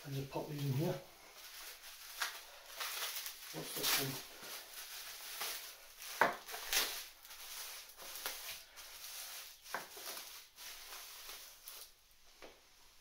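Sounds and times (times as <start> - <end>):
bubble wrap crinkling: 0.0 - 12.4.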